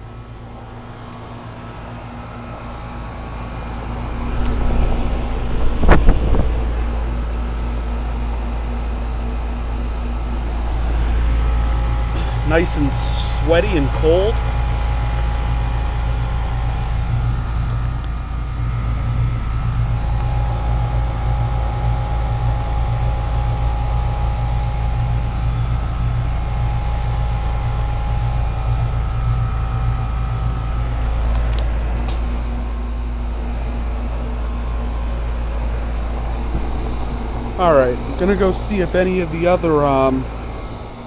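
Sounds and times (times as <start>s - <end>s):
heat pump humming and whining: 0.0s - 41.0s.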